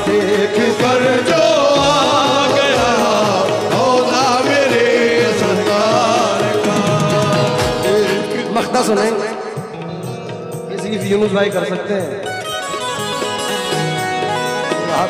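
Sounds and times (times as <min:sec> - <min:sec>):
dholak drumming: 0:00.0 - 0:15.0
harmonium and keyboard melody: 0:00.0 - 0:15.0.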